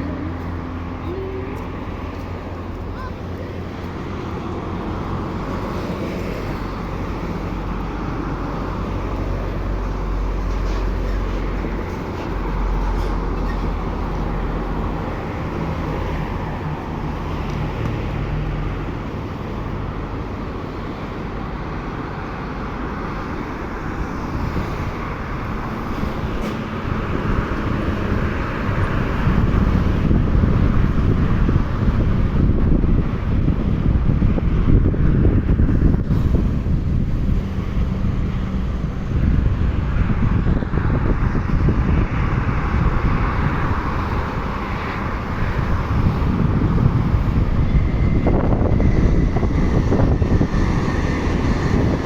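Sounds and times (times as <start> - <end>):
electric trains rushing past: 0.0 - 52.0
wind on microphone: 0.0 - 52.0.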